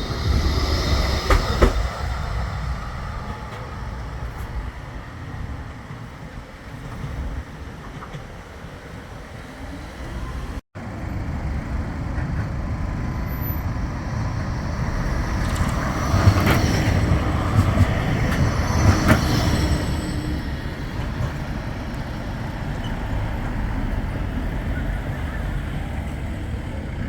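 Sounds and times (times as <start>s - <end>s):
tram passing by: 0.0s - 27.0s.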